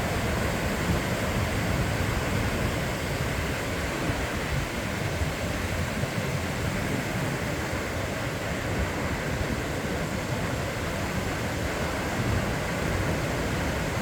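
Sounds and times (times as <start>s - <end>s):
ocean surf washing on beach: 0.0s - 14.0s.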